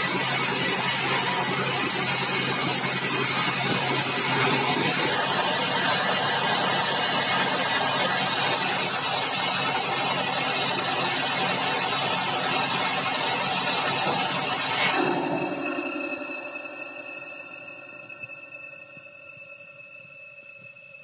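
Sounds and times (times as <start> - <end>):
band saw cutting log: 0.0 - 18.1.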